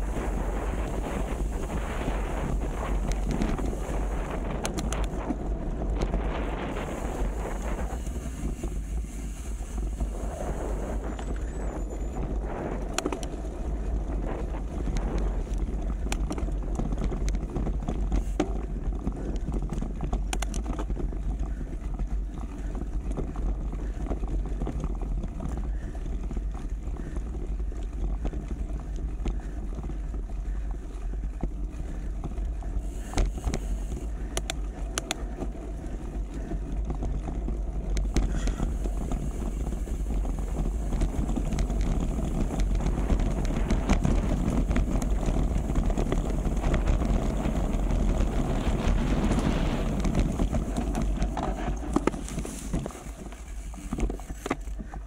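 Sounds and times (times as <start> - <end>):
bicycle rumbling on rough ground: 0.0 - 55.0
wind buffeting microphone: 0.0 - 55.0.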